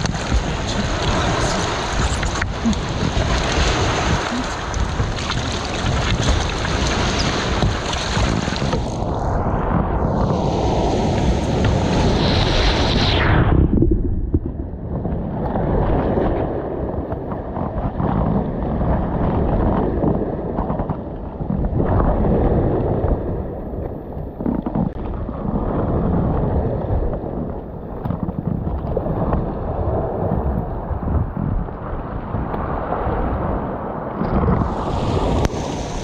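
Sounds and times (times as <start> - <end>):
water slapping against hull: 0.0 - 13.0, 13.7 - 36.0
wind buffeting microphone: 0.0 - 36.0.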